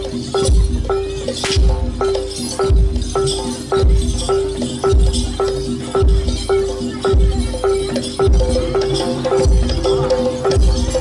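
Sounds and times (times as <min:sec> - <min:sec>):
deep bass beat: 0:00.0 - 0:11.0.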